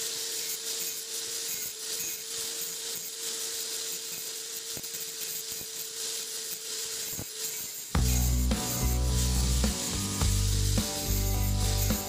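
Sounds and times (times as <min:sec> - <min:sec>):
angle grinder grinding steel: 0:00.0 - 0:12.0.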